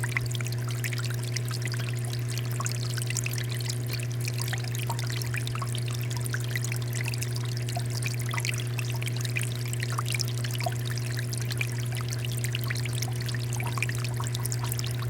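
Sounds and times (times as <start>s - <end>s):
fountain water splashing into basin: 0.0s - 15.0s.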